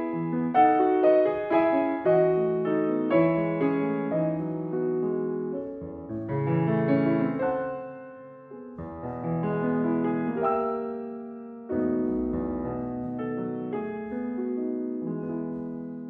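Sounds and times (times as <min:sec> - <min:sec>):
solo piano chords: 0:00.0 - 0:16.0.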